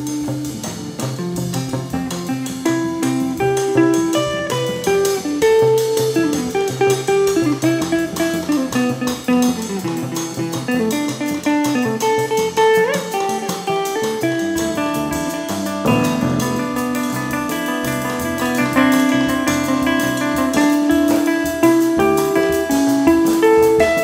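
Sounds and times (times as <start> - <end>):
band music: 0.0 - 24.0
lead guitar melody: 0.0 - 24.0.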